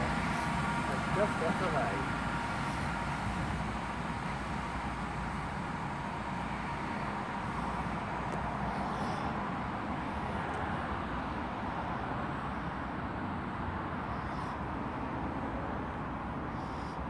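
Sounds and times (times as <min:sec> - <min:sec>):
diesel train engine rumbling: 0:00.0 - 0:17.0.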